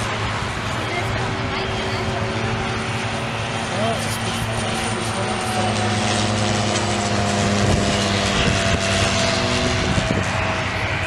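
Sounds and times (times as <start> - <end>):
propeller aircraft flying overhead: 0.0 - 11.0.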